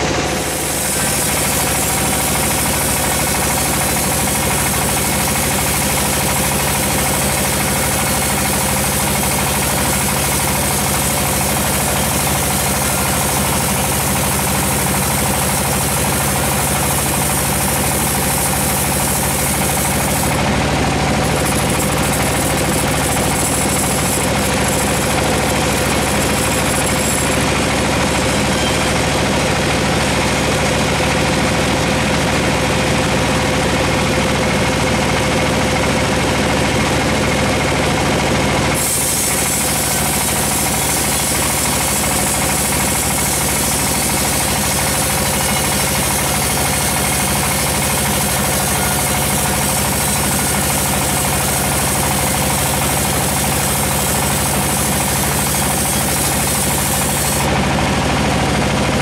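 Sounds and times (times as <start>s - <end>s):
hissing saw cut through wood: 0.0s - 29.5s, 38.7s - 57.6s
band saw running: 0.0s - 59.0s.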